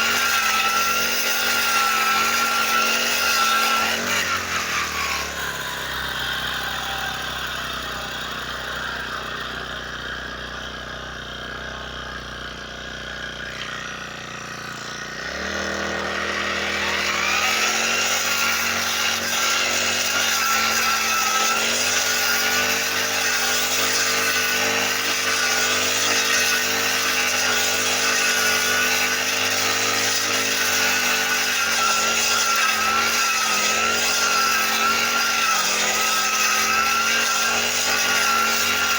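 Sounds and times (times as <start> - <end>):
brush cutter engine revving: 0.0 - 38.9.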